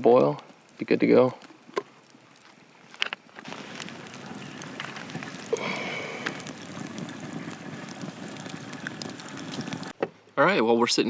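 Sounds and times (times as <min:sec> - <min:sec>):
campfire crackling and hissing: 0:00.0 - 0:11.0.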